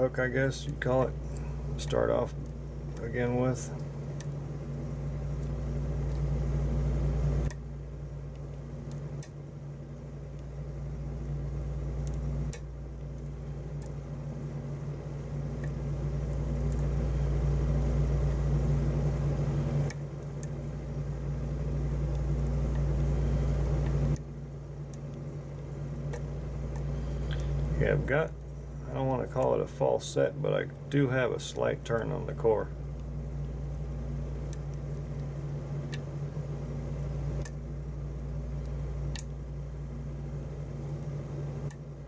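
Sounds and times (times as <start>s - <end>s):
low hum with hiss: 0.0s - 42.0s.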